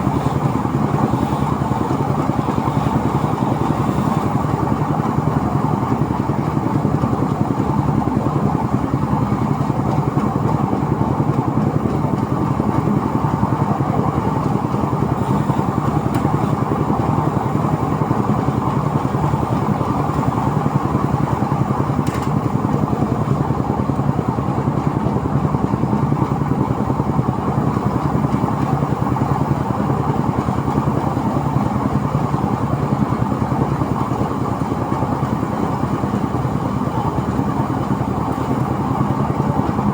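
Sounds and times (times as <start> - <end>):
rice thresher running: 0.0 - 39.9.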